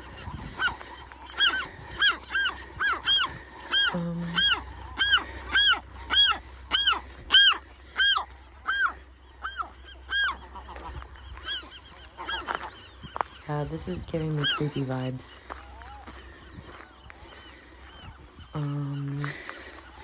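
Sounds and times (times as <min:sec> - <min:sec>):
gulls squawking: 0:00.0 - 0:20.0.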